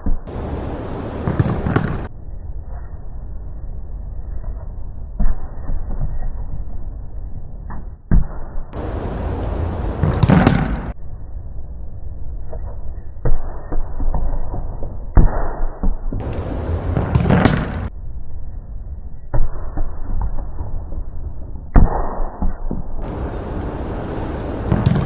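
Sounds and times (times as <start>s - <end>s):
steady low rumble: 0.3s - 15.2s, 16.2s - 21.8s, 22.9s - 25.0s.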